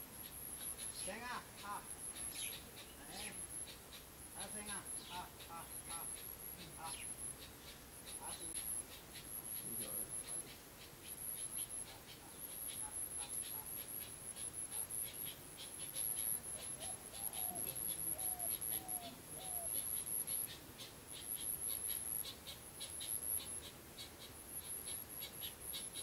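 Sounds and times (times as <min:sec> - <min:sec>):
insect chirps: 0:00.0 - 0:26.0
insects droning: 0:00.0 - 0:26.0.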